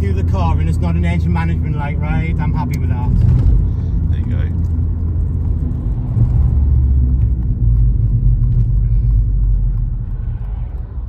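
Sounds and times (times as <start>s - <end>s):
in-cabin car engine and road noise: 0.0s - 11.0s.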